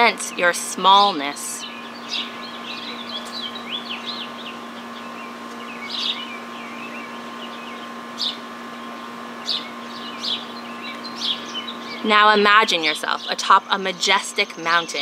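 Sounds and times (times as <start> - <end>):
faint steady hum: 0.0 - 15.0
small songbirds chirping: 0.2 - 15.0.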